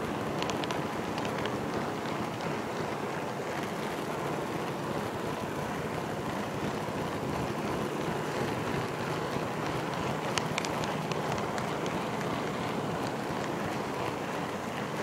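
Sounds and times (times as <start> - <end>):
model train wheels rolling on rail: 0.0 - 15.0.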